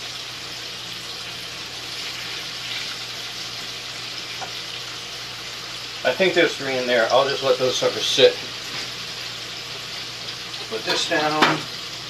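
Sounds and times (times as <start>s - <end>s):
patties frying in oil: 0.0s - 12.0s.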